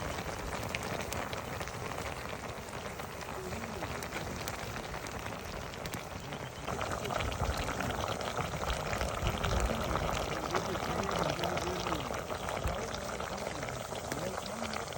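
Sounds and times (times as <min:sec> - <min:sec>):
meat sizzling in a pan: 0:00.0 - 0:14.9.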